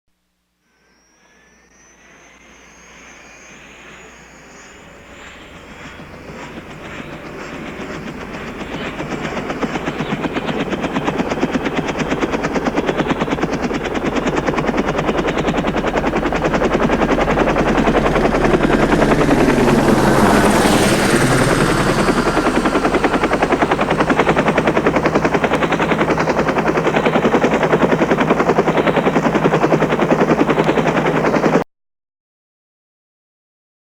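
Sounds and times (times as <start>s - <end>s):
helicopter rotor blade chop: 2.9s - 31.6s.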